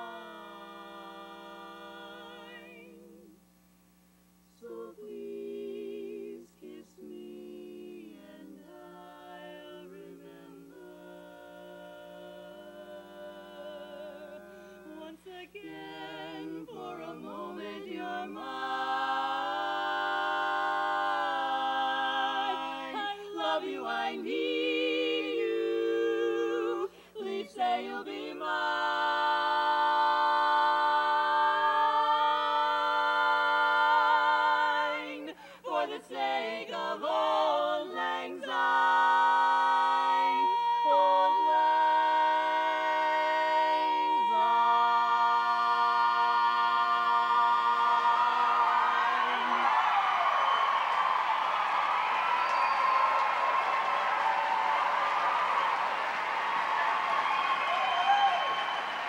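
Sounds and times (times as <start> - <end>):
women singing a cappella harmony: 0.0 - 3.5, 4.5 - 50.2.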